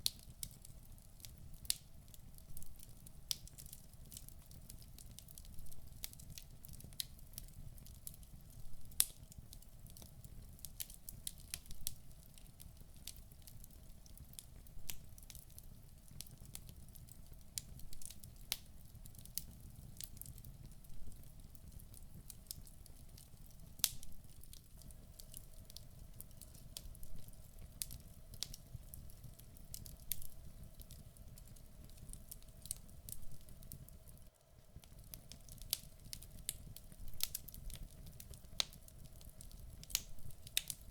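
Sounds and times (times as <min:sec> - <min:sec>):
logs crackling and popping: 0:00.0 - 0:40.9
low rumble of flame: 0:00.0 - 0:40.9.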